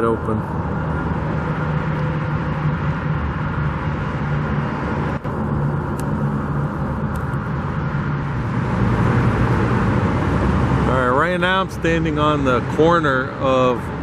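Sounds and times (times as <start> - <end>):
passing cars: 0.0 - 14.0.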